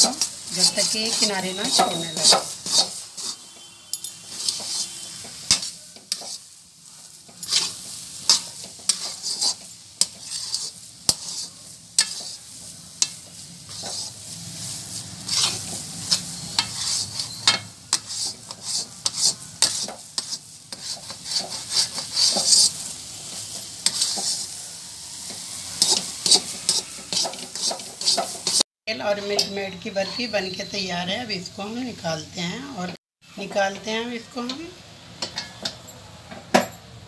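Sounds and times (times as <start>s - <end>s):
metal spatula scraping a pan: 0.0s - 30.8s.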